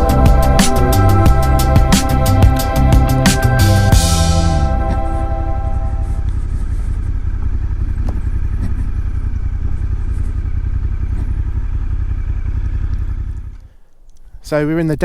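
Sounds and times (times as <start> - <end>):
motorcycle engine throbbing: 0.0 - 15.0.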